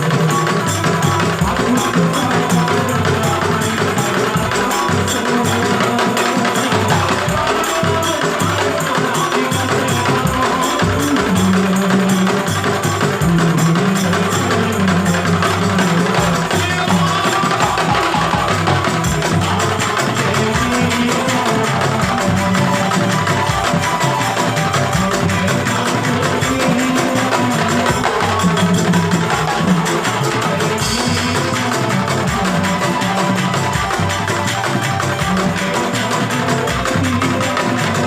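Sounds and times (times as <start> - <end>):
music with busy percussion: 0.0 - 38.0.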